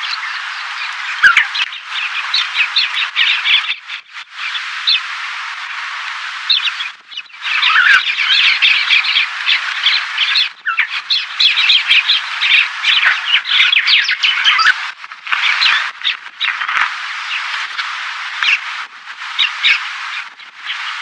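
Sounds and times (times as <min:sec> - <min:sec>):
flock of small birds chattering: 0:00.0 - 0:21.0.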